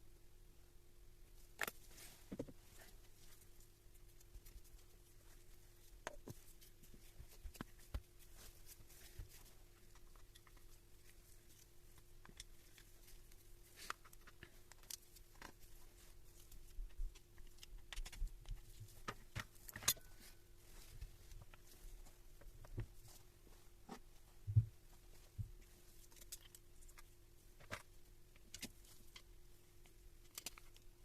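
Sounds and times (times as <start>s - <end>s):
faint steady hum: 0.0s - 31.0s
faint clicks and knocks: 1.6s - 31.0s.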